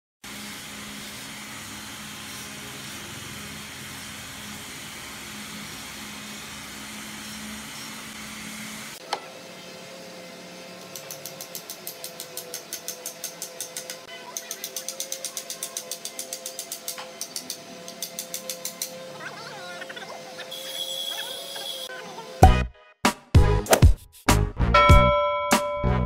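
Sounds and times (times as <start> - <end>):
machine humming: 0.2 - 22.4.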